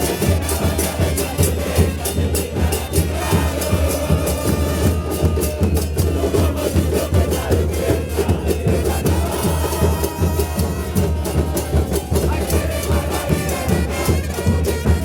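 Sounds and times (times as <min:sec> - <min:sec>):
bass drums and cymbals beat: 0:00.0 - 0:15.0
crowd singing: 0:00.0 - 0:15.0.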